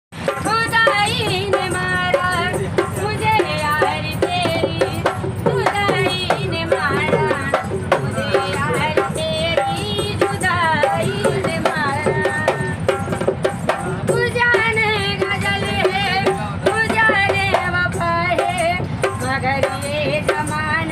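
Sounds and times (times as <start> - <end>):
dholak drum strokes: 0.2 - 20.9
woman singing folk song: 0.3 - 12.9, 14.1 - 20.9.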